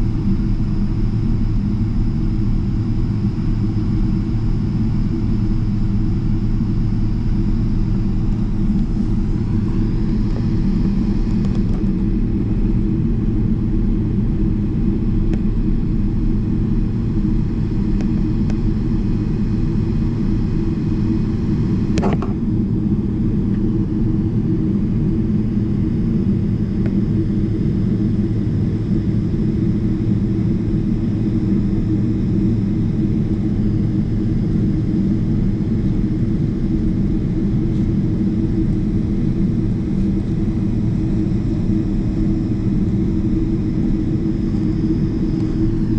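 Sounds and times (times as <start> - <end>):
aircraft engines at taxi power: 0.0 - 45.9.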